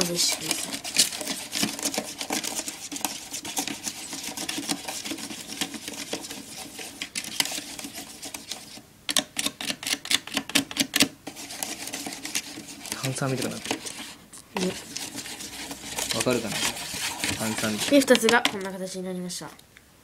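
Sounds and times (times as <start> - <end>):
plastic spoon stirring in tray: 0.0 - 19.0.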